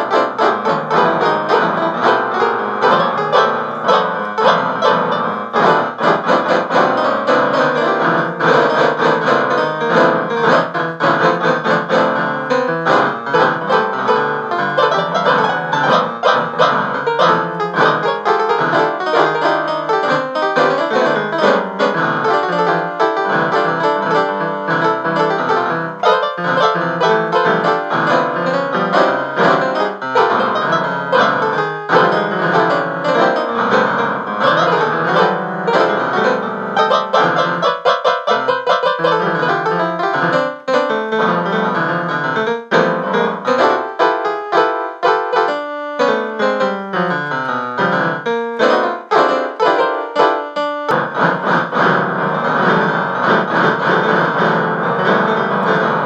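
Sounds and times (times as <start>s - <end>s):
piano playing quick notes: 0.0s - 56.0s.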